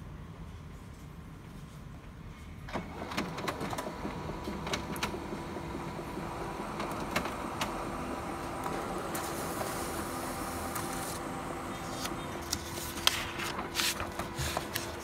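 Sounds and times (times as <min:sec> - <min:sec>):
printer motors whirring: 0:02.7 - 0:15.0
printer paper feed clicks: 0:02.7 - 0:15.0.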